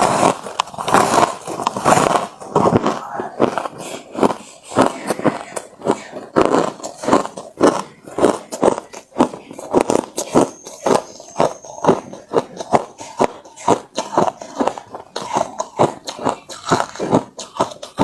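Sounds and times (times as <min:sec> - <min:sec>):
chewing crushed ice: 0:00.0 - 0:18.0.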